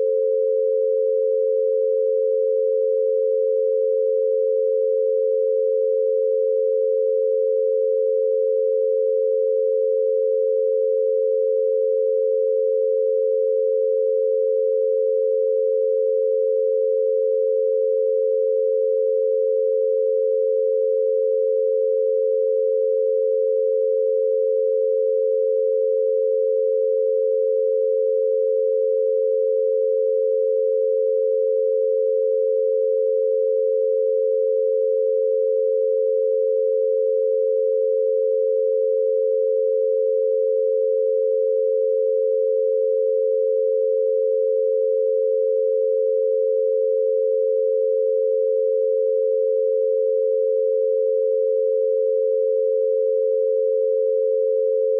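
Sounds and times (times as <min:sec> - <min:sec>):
two steady sine tones: 0:00.0 - 0:54.9.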